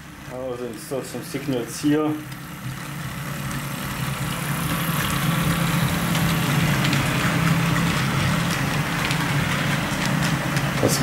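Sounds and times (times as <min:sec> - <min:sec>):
model train hum: 0:00.0 - 0:11.0
wheels clicking over track: 0:00.0 - 0:11.0.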